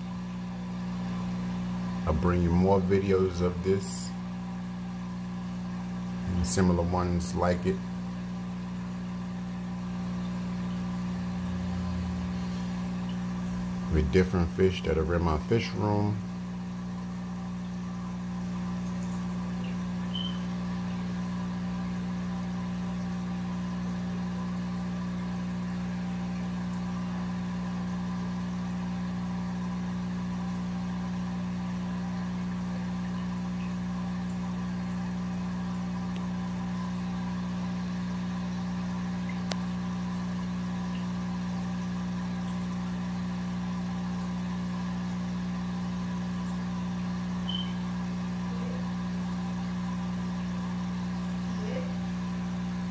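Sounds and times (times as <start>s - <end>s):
electrical hum and buzz: 0.0s - 52.9s.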